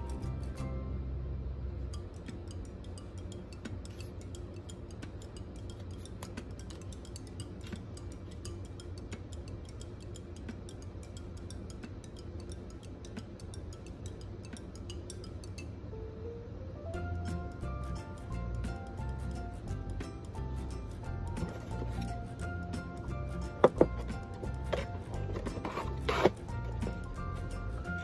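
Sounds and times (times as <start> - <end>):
background music: 0.0 - 12.6, 15.9 - 28.0.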